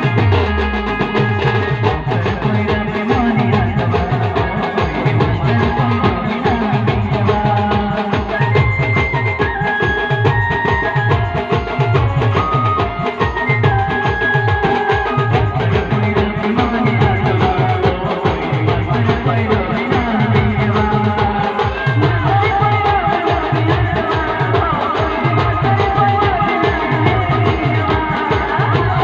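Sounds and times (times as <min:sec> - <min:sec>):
fast driving drum rhythm: 0:00.0 - 0:29.0.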